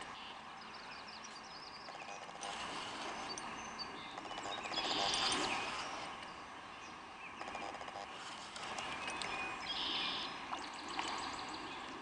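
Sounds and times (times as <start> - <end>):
songbirds chirping and singing: 0.0 - 2.4, 3.0 - 12.0
faint outdoor hiss: 0.0 - 12.0.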